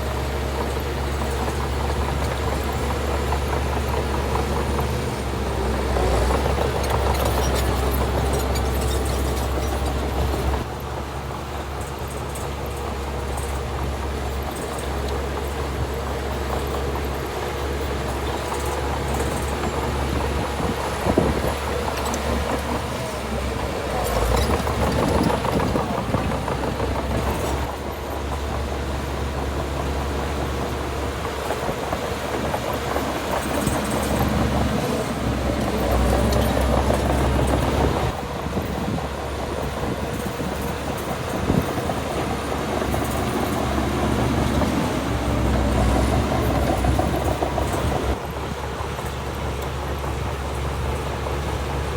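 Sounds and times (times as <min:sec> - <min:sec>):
heavy diesel engine droning: 0:00.0 - 0:51.9.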